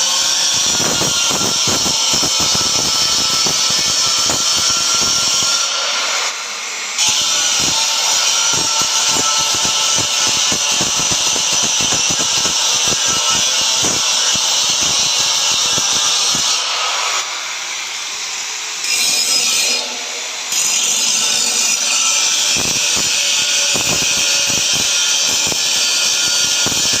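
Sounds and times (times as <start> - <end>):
angle grinder grinding steel: 0.0 - 27.0.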